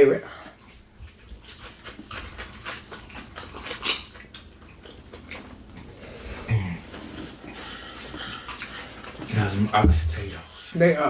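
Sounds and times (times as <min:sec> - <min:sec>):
wet chewing and lip-smacking: 0:00.4 - 0:09.7.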